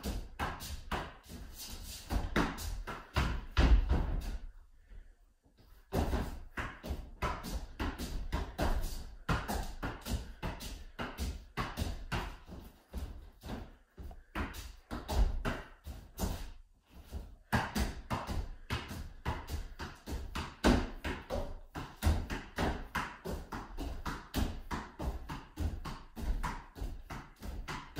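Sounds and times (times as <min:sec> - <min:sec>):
bare foot kicking balloon: 0:00.0 - 0:04.5, 0:05.9 - 0:27.9.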